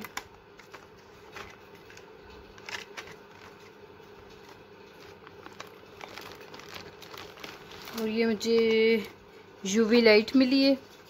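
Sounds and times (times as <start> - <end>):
plastic items clicking: 0.0 - 9.1
plastic bag crinkling: 0.0 - 9.3
low steady hum: 0.0 - 11.0.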